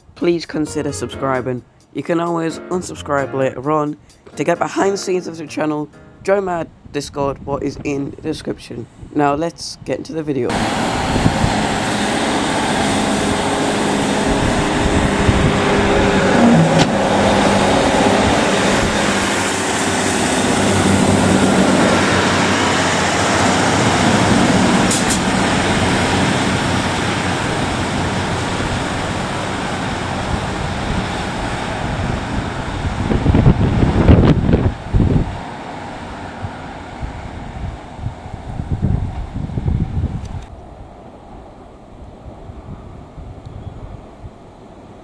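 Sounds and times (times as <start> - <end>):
train diesel engine humming: 0.0 - 6.3, 10.5 - 45.0
wind buffeting microphone: 6.2 - 45.0.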